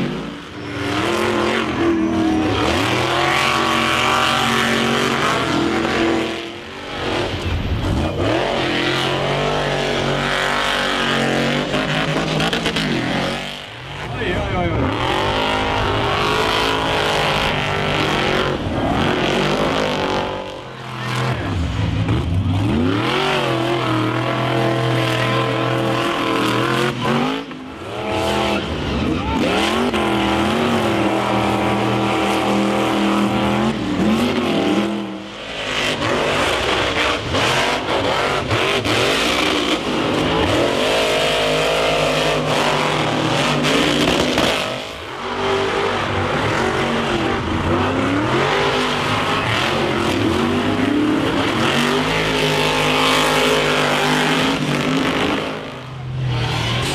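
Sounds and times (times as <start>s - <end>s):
monster truck engines revving: 0.0s - 56.9s.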